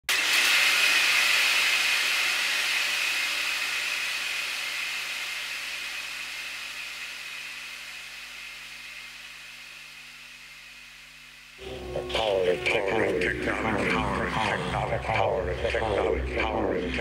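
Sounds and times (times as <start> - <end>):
steady hiss: 0.7 - 17.0.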